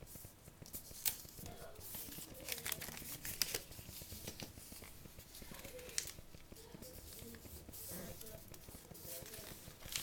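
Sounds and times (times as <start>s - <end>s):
sharp paper tick: 0.1s - 10.0s
paper crinkling: 0.5s - 10.0s.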